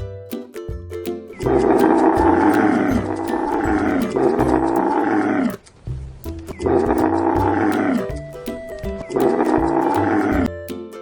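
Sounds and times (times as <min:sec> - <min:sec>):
light background music: 0:00.0 - 0:04.8, 0:06.2 - 0:11.0.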